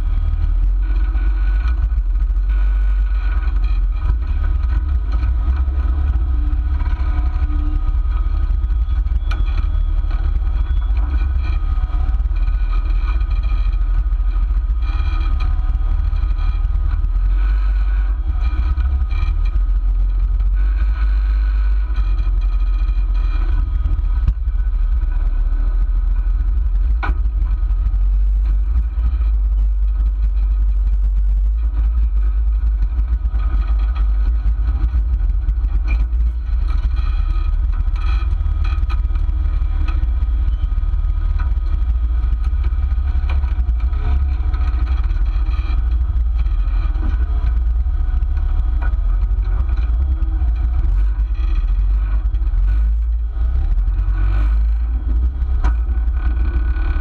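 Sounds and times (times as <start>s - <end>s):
engine rumbling at low revs: 0.0s - 57.0s.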